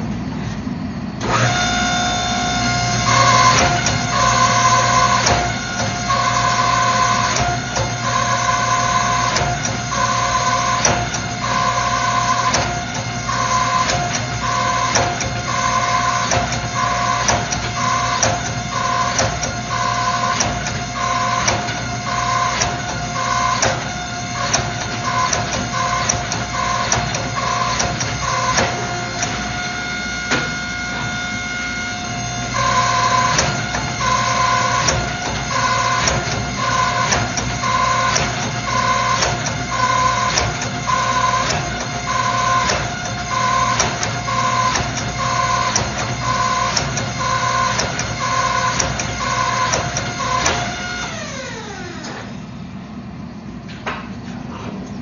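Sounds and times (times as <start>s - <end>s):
hydraulic pump hum: 0.0s - 55.0s.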